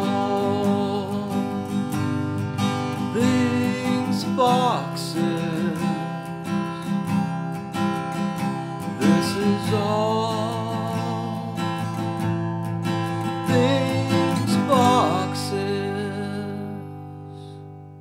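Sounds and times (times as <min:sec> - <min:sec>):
guitar background music: 0:00.0 - 0:18.0.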